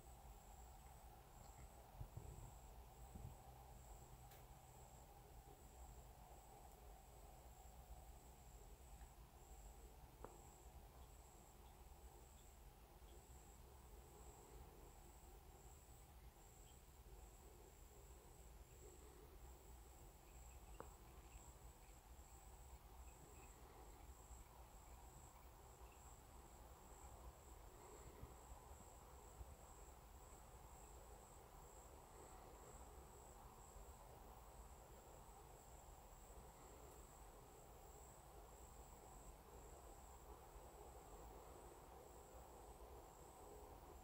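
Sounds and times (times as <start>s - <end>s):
insect chirping: 0.0s - 44.0s.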